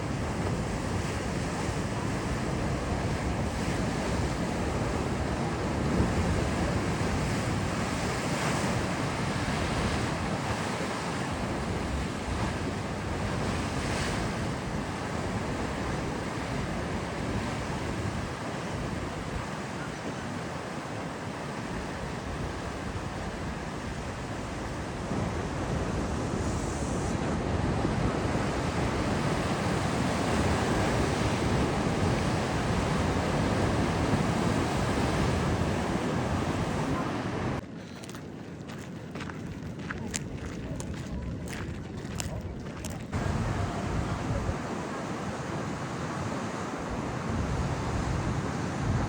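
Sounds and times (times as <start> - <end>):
waves breaking: 0.0 - 49.0
wind noise on microphone: 0.0 - 49.0.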